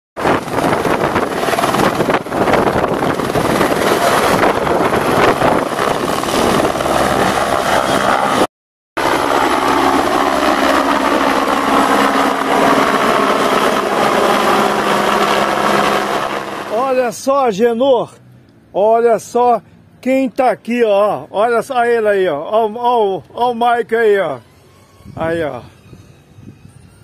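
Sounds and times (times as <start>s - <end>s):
helicopter rotor and engine: 0.2s - 17.3s, 21.0s - 27.0s.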